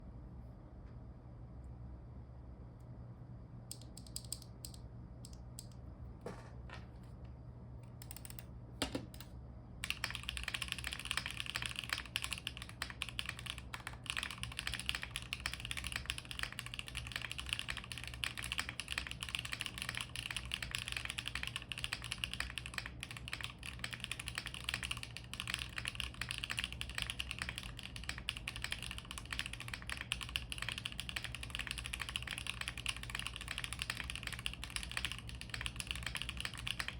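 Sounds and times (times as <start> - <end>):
mechanical keyboard typing: 3.7 - 4.8, 7.9 - 36.9.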